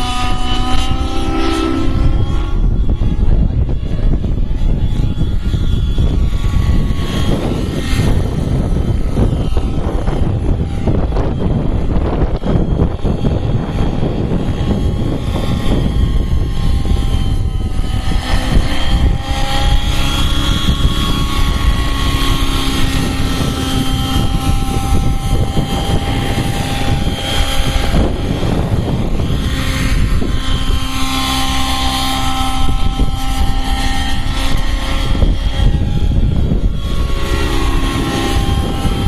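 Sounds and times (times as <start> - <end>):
model helicopter engine whine: 0.0 - 39.0
rotor blades chopping: 0.0 - 39.0.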